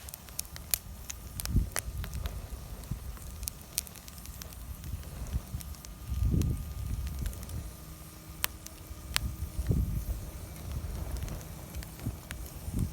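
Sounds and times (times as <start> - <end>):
bonfire crackling and popping: 0.0 - 12.9
low rumble: 0.0 - 12.9.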